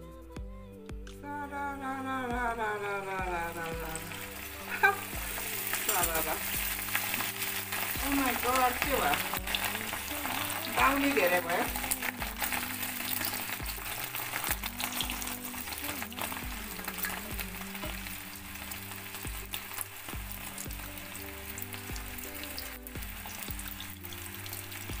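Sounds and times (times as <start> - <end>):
music with a steady beat: 0.0 - 25.0
batter sizzling in hot oil: 3.4 - 25.0.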